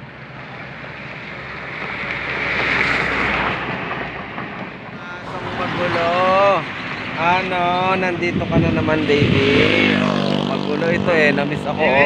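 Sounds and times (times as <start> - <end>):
car driving past: 0.2 - 7.4, 8.4 - 12.0.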